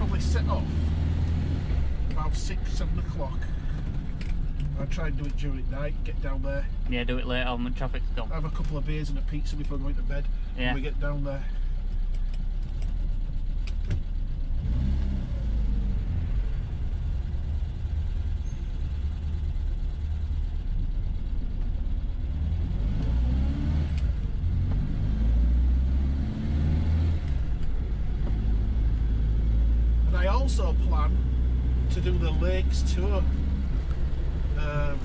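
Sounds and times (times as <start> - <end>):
car engine running: 0.0 - 35.0
road noise: 0.0 - 35.0.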